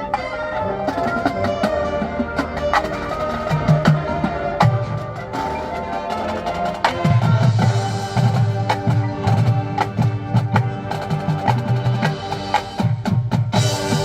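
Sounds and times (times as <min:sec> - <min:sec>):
wind instruments holding low notes: 0:00.0 - 0:14.0.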